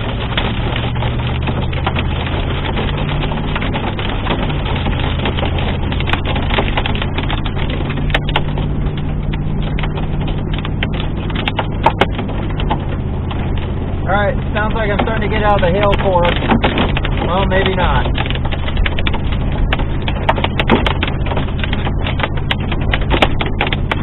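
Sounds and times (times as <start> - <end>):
hail clattering on a car: 0.0 - 24.0
low engine hum: 0.0 - 24.0
rain hissing: 0.0 - 24.0.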